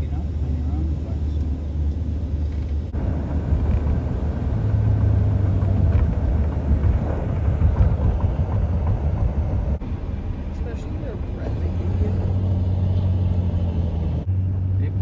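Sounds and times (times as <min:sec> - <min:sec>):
highway traffic rumbling: 0:00.0 - 0:15.0.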